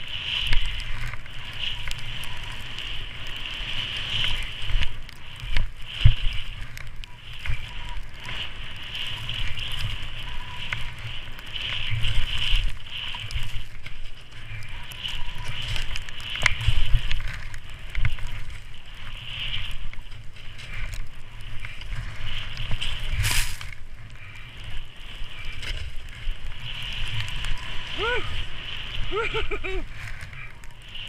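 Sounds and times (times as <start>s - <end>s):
skis hissing through snow: 0.0s - 31.0s
wind buffeting microphone: 0.0s - 31.0s.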